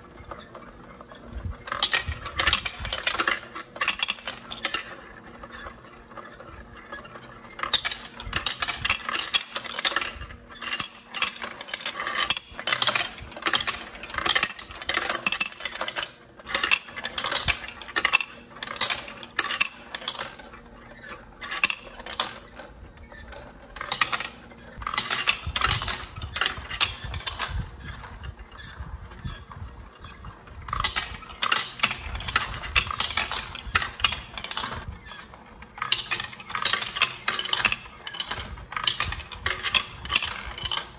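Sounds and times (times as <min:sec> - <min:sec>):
plastic marbles clattering on track: 0:00.0 - 0:40.9
marbles rolling rumble: 0:00.1 - 0:40.9.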